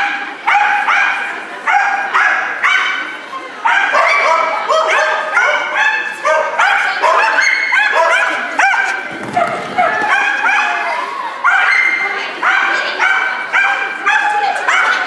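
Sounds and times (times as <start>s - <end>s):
dog barking: 0.0s - 15.0s.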